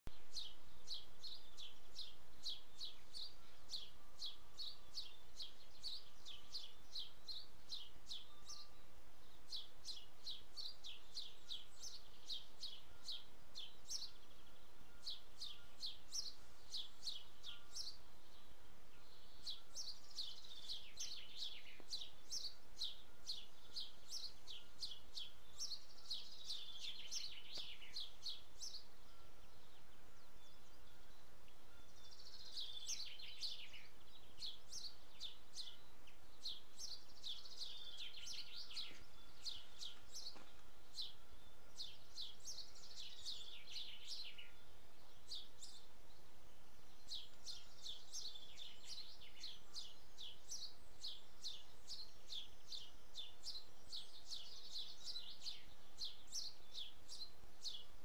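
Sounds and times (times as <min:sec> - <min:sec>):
faint background hiss: 0:00.1 - 0:58.0
songbirds chirping: 0:00.1 - 0:58.0.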